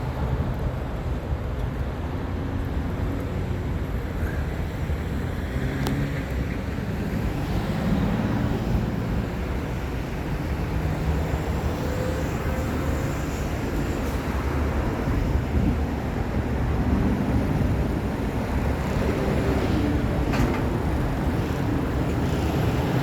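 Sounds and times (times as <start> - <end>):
cars passing: 0.0 - 23.0
freeway traffic rumble: 0.0 - 23.0.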